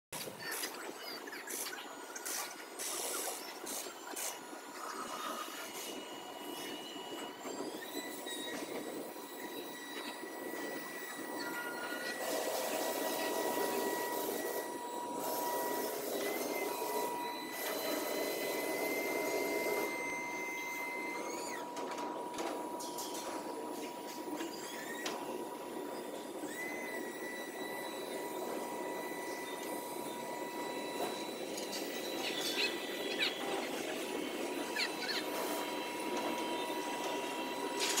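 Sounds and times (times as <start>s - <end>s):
hydraulic drive whine: 0.2s - 38.0s.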